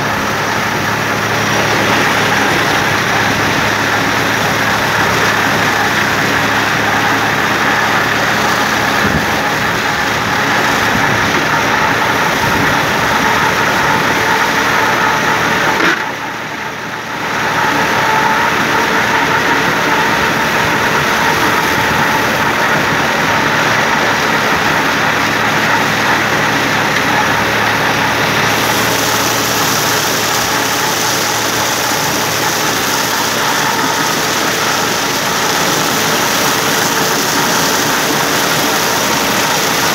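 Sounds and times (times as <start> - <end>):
tractor and mower running: 0.0 - 39.9.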